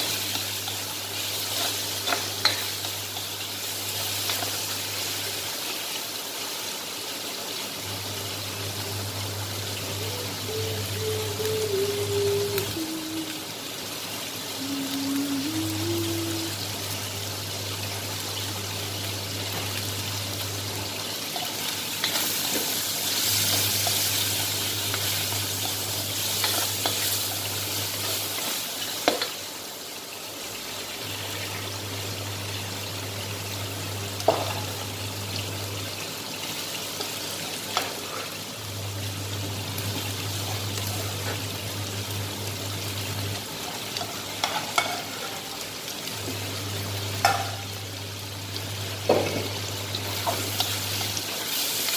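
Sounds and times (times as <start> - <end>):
food sizzling in a wok: 0.0 - 51.9.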